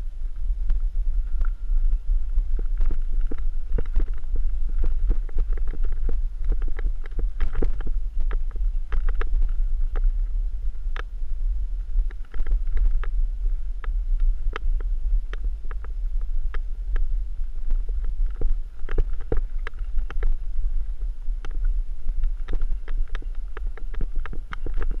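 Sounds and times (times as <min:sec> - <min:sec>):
wind buffeting microphone: 0:00.0 - 0:25.0
unicycle clicking over rocks: 0:00.7 - 0:10.2, 0:13.8 - 0:25.0.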